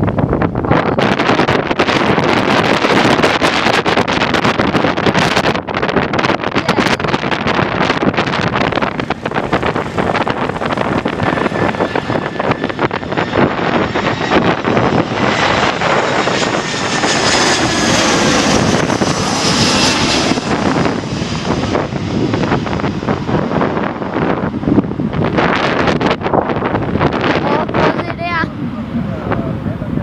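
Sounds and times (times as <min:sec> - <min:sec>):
jet engines passing: 0:00.0 - 0:30.0
wind buffeting microphone: 0:00.0 - 0:30.0.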